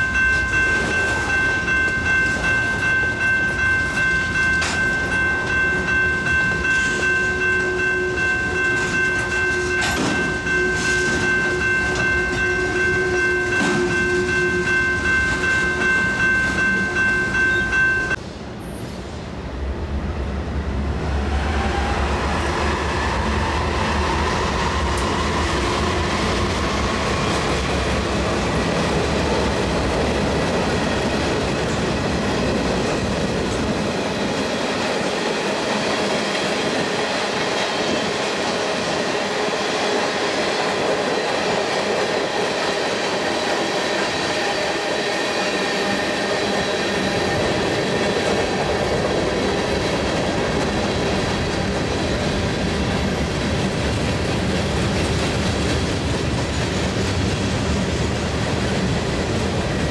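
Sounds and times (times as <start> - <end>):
steel wheels clattering on rail: 0.0 - 18.2, 23.0 - 59.9.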